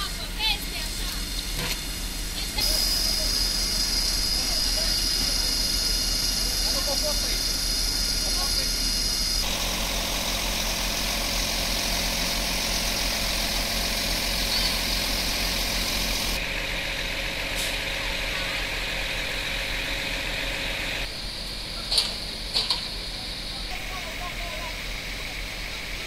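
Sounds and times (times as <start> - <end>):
fire engine idling: 0.0 - 26.0.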